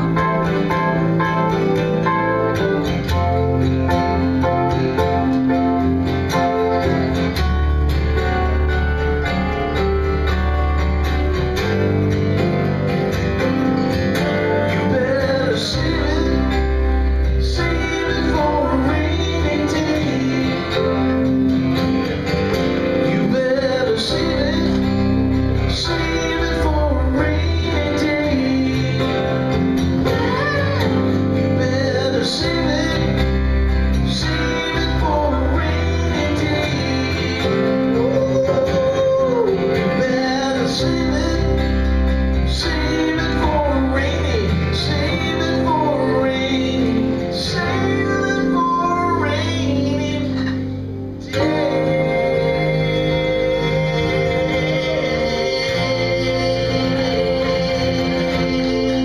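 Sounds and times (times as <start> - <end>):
acoustic guitar: 0.0 - 59.0
keyboard: 0.0 - 59.0.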